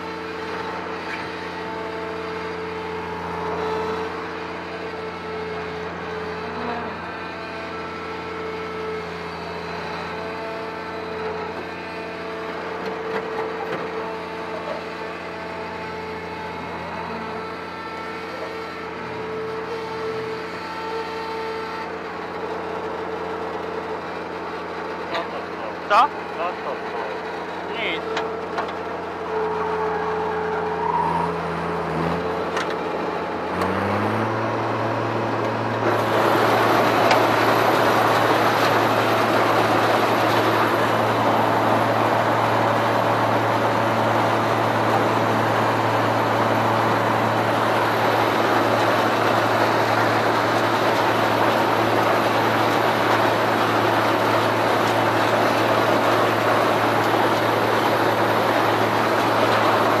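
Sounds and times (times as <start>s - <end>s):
combine harvester engine running: 0.0s - 60.0s.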